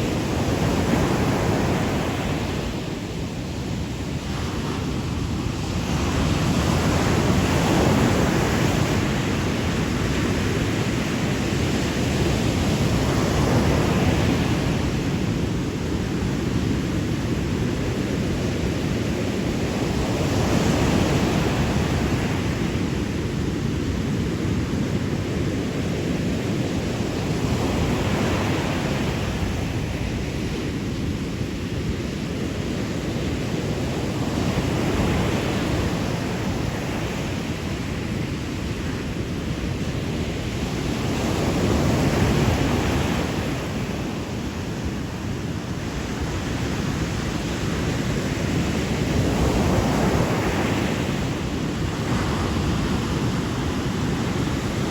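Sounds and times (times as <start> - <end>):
sea waves rolling in: 0.0 - 54.9.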